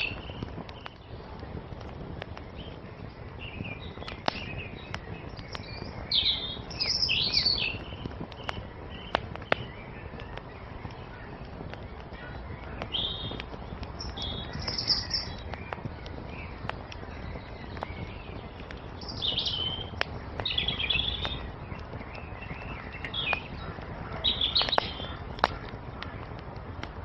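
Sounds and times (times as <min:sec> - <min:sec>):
songbirds chirping: 0:00.0 - 0:27.0
wood fire crackling and popping: 0:00.0 - 0:27.0.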